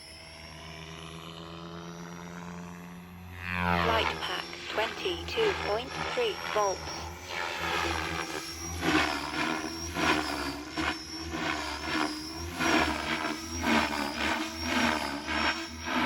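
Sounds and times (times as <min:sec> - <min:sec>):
rc helicopter rotor blades and motor: 0:00.0 - 0:16.0.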